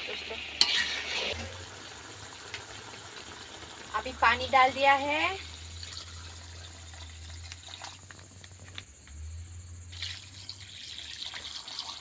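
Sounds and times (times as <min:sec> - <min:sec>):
water sizzling in hot wok: 0:00.0 - 0:08.7, 0:09.9 - 0:12.0.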